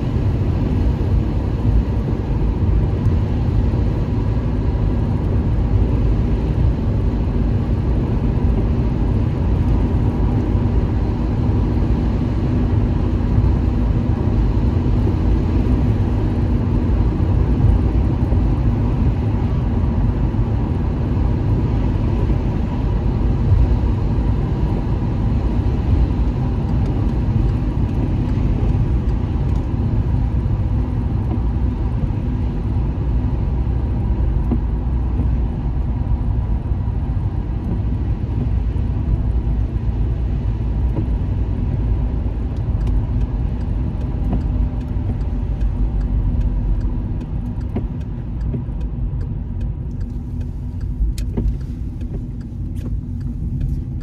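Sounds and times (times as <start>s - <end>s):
car engine: 0.0s - 54.0s
tyre and road noise: 0.0s - 54.0s.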